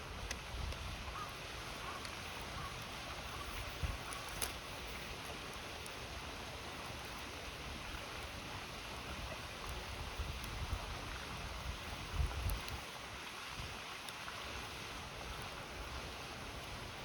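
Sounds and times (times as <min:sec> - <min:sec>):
campfire crackles: 0:00.0 - 0:17.0
river water flowing: 0:00.0 - 0:17.0.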